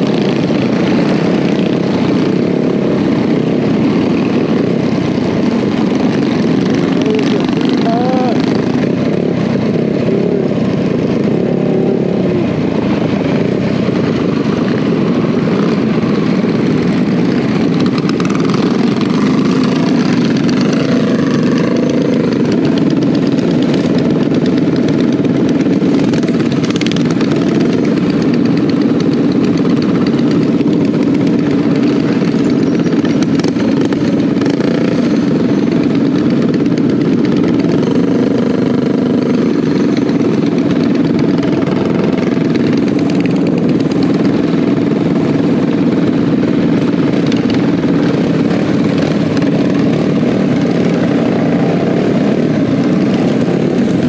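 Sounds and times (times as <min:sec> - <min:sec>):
engines idling: 0:00.0 - 0:54.0
engines revving: 0:00.0 - 0:54.0
minibike engines running: 0:00.0 - 0:54.0.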